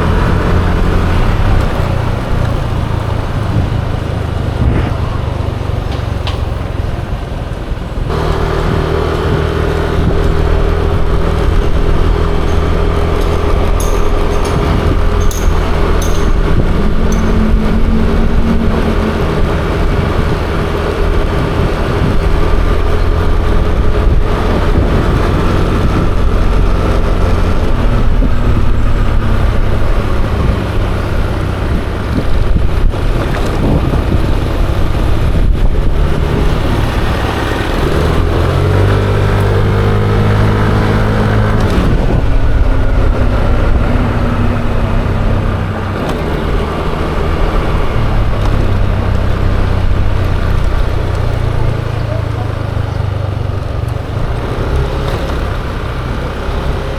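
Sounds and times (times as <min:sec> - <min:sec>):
road traffic: 0:00.0 - 0:56.9
scooter engine humming: 0:00.0 - 0:56.9
wind rumble on microphone: 0:00.0 - 0:56.9.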